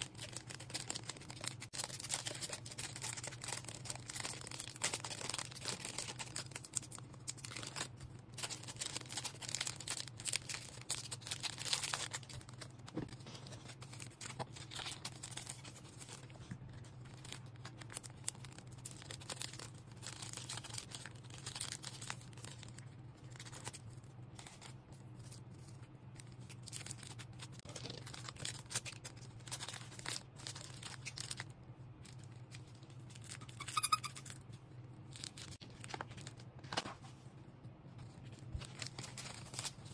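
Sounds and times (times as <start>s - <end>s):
packaging crinkling and tearing: 0.0s - 37.1s, 38.0s - 39.9s
low steady hum: 0.0s - 39.9s.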